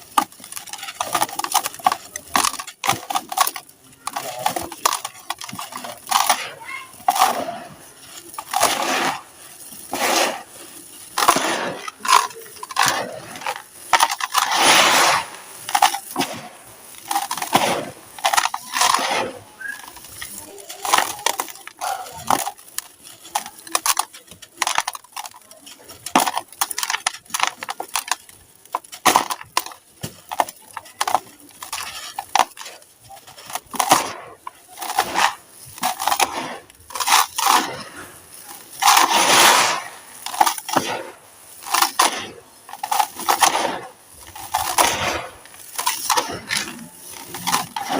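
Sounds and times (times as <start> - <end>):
sand-cement chunks crunching: 0.0 - 47.9.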